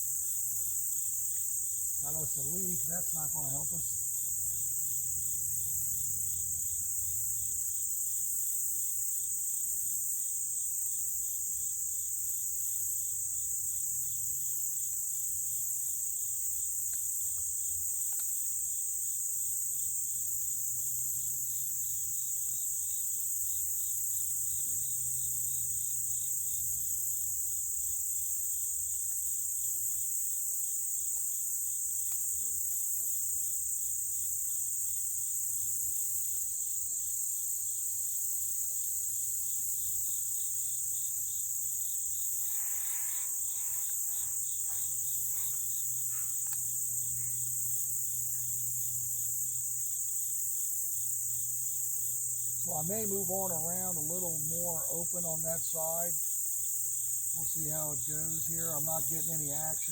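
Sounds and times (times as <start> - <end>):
insects trilling in chorus: 0.0 - 59.9.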